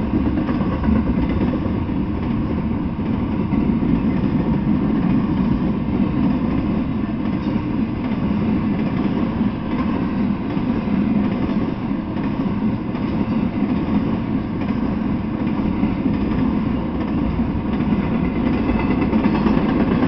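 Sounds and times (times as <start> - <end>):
steel wheels rumbling on rails: 0.0 - 20.0.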